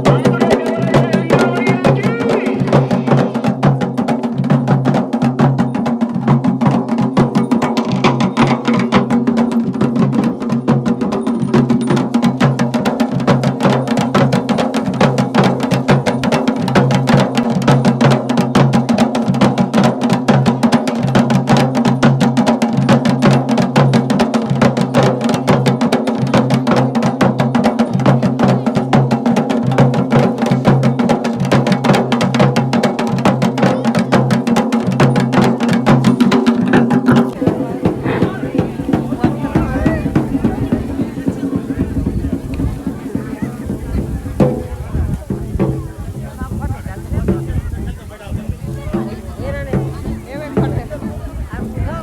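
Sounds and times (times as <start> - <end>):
drums in a fast rhythm: 0.0 - 52.0.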